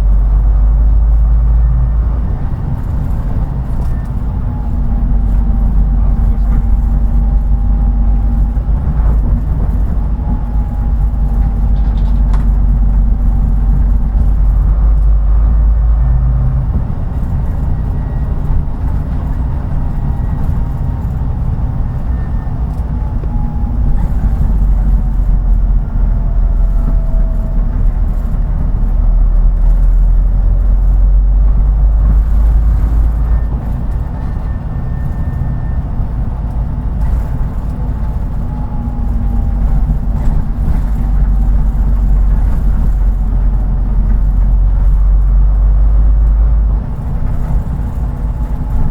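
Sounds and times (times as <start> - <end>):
bus diesel engine droning: 0.0 - 48.9.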